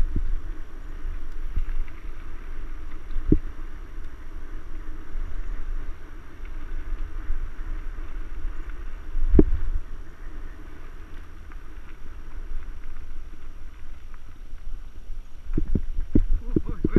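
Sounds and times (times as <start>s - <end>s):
wind and riding noise on microphone: 0.0s - 16.9s.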